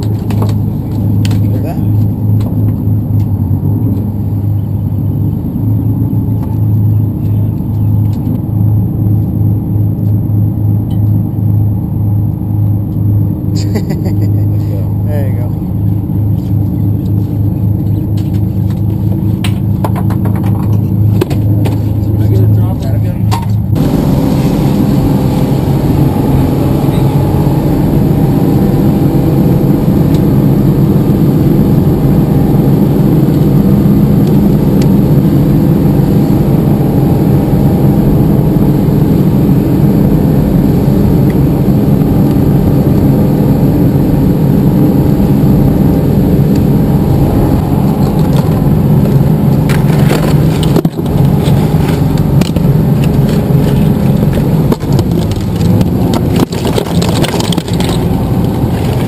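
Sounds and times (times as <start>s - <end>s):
boat engine rumbling: 0.0s - 59.0s.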